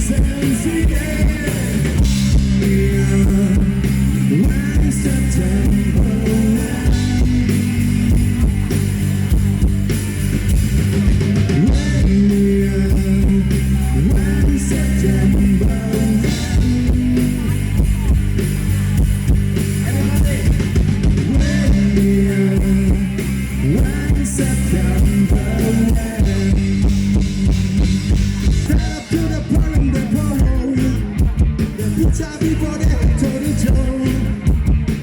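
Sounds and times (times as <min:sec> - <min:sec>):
drum kit: 0:00.0 - 0:35.0
electric guitar: 0:00.0 - 0:35.0
low bass notes: 0:00.0 - 0:35.0.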